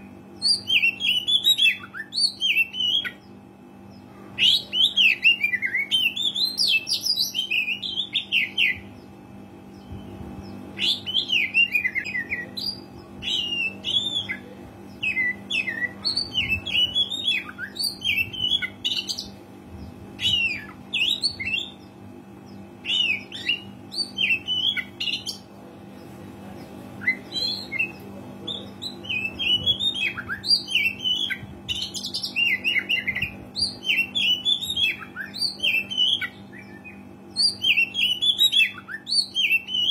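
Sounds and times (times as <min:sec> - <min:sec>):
low steady hum: 0:00.0 - 0:39.9
magpie-robin singing: 0:00.4 - 0:39.9.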